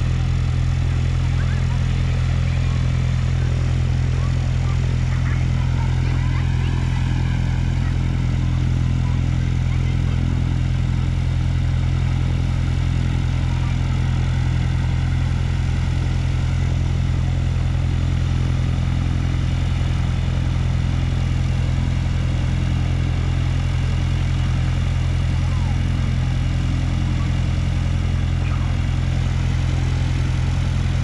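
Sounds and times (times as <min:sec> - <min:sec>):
aircraft piston engine droning: 0:00.0 - 0:31.0.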